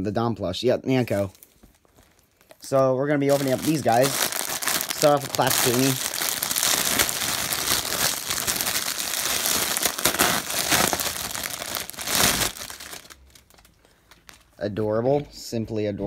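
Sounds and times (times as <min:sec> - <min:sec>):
plastic bag crinkling: 0:01.1 - 0:14.6.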